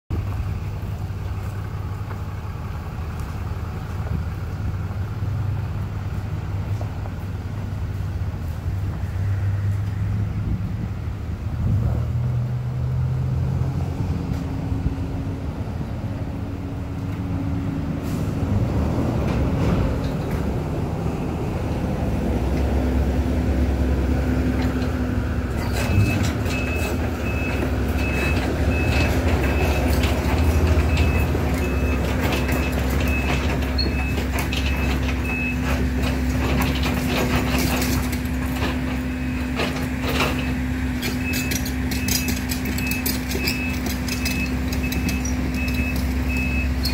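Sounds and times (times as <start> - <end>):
tracks and debris clanking: 0.1 - 10.8, 11.4 - 46.9
excavator diesel engine working: 0.1 - 46.9.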